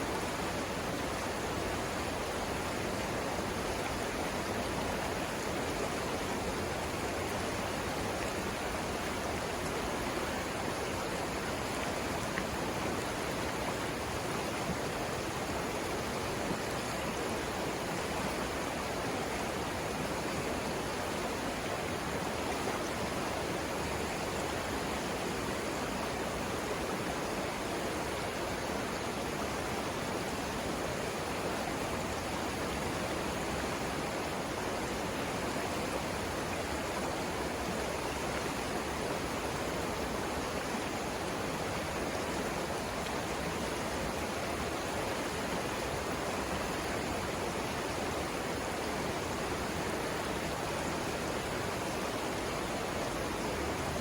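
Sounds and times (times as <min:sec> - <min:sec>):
river rushing over rapids: 0:00.0 - 0:54.0.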